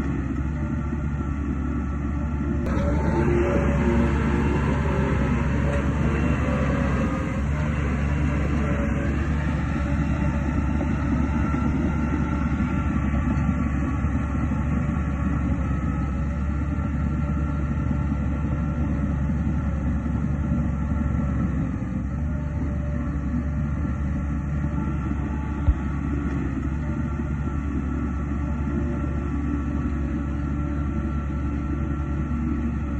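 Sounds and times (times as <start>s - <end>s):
heavy diesel machinery rumbling: 0.0s - 32.9s.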